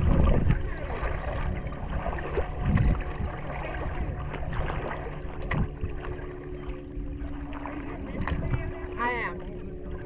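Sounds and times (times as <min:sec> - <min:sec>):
water splashing and lapping: 0:00.0 - 0:10.0.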